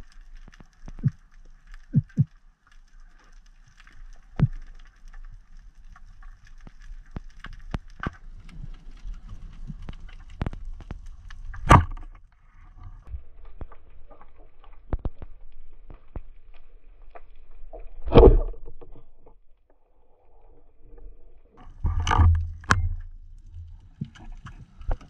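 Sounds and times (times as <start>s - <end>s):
underwater clicks and crackle: 0.0s - 25.0s.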